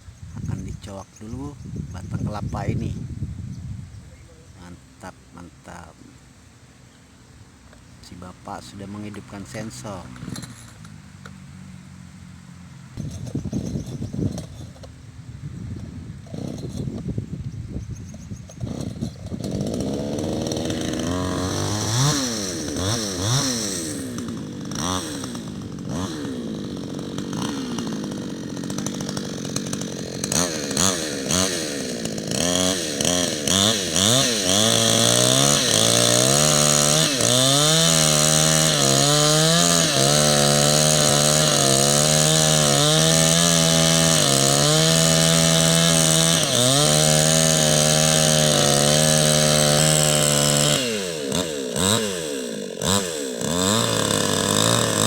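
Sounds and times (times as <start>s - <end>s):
chainsaw revving and cutting: 0.6s - 2.9s, 4.6s - 6.3s, 7.6s - 11.8s, 12.5s - 15.0s, 15.8s - 17.2s, 18.4s - 55.0s.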